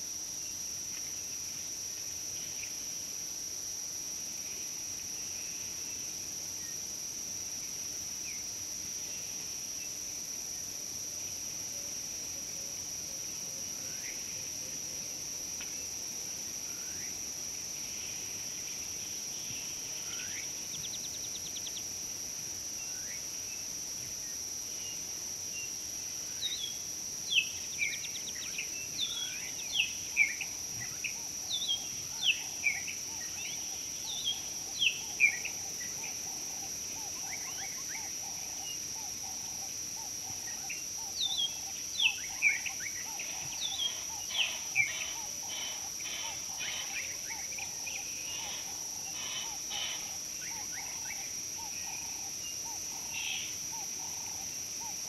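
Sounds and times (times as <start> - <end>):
crickets droning: 0.0 - 55.0.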